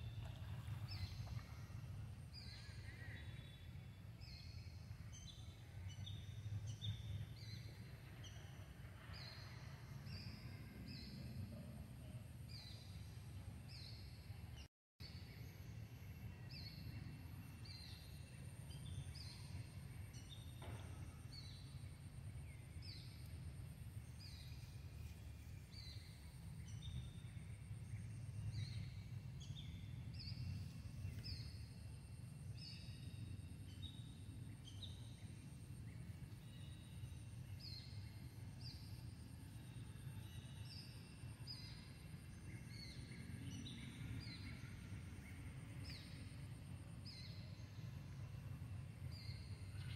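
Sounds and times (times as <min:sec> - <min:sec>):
low steady rumble: 0:00.0 - 0:49.9.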